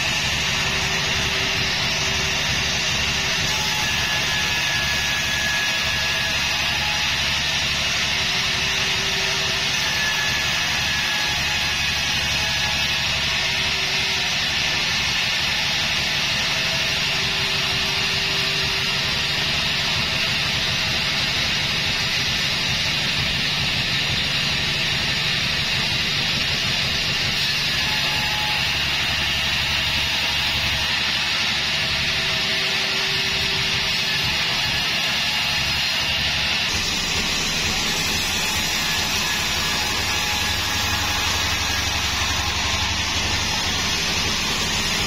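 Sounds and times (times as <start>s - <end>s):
band saw machine drone: 0.0s - 45.0s
saw blade hissing through wood: 0.0s - 45.0s.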